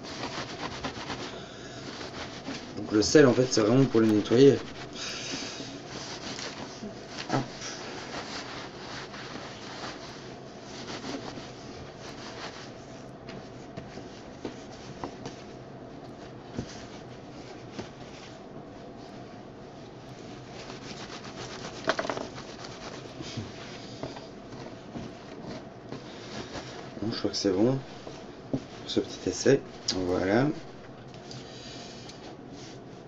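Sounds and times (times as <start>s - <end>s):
rubbing of cloth and salt: 0.0s - 33.0s.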